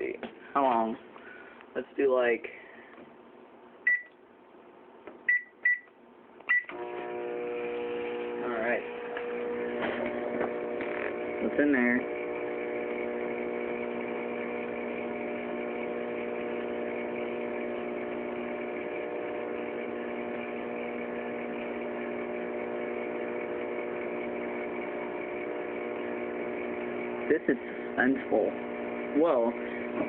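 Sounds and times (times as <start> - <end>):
microwave oven humming: 5.2 - 30.0.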